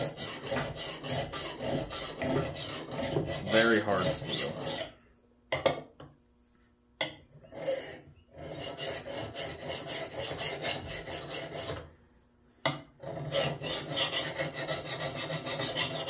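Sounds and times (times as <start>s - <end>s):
file scraping axe head: 0.0s - 5.0s, 7.0s - 11.9s, 12.6s - 16.0s.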